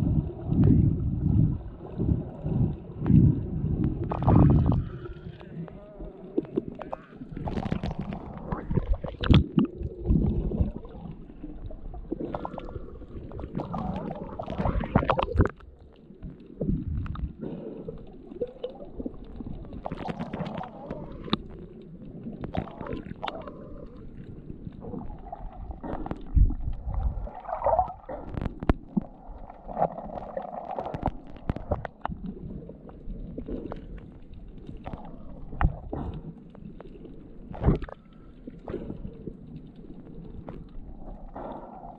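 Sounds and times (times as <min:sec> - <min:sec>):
water sloshing and gurgling: 0:00.0 - 0:41.9.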